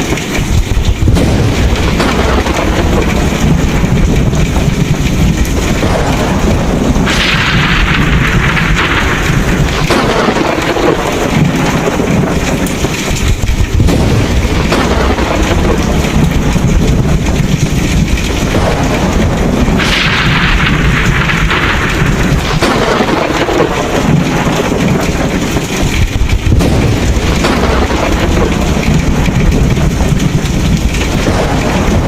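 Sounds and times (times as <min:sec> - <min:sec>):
heavy rain: 0:00.0 - 0:32.0
thunder rumbling: 0:00.0 - 0:32.0.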